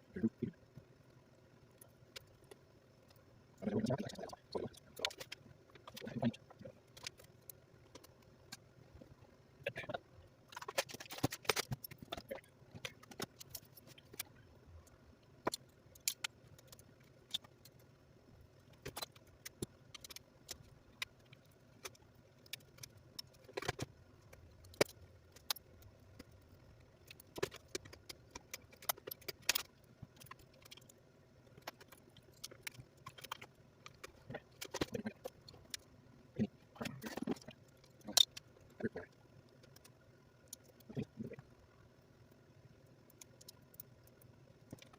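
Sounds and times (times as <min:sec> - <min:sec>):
small tools clicking and tapping: 0:03.9 - 0:09.1, 0:10.5 - 0:17.9, 0:18.6 - 0:35.9, 0:36.8 - 0:41.4, 0:43.1 - 0:44.9.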